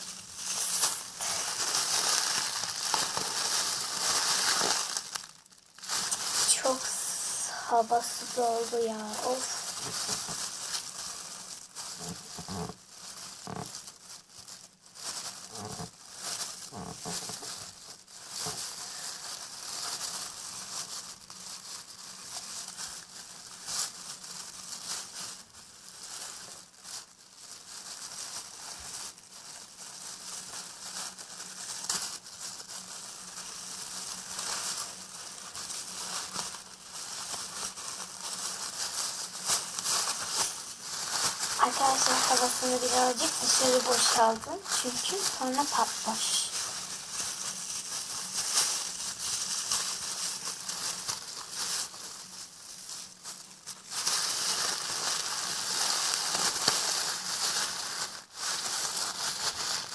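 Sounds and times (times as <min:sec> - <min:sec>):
plastic bag crinkling: 0:00.0 - 0:59.9.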